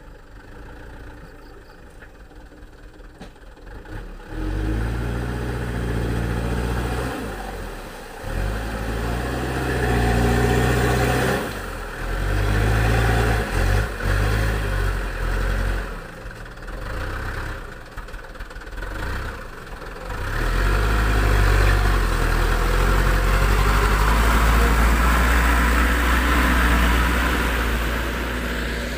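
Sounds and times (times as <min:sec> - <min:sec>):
diesel truck engine revving: 0:02.8 - 0:18.0, 0:18.7 - 0:28.9.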